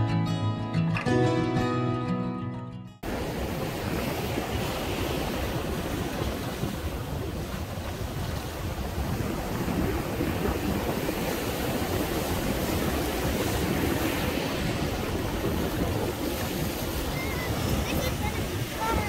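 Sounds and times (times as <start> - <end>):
ocean surf breaking: 3.0 - 19.0
wind rumbling on microphone: 3.0 - 19.0.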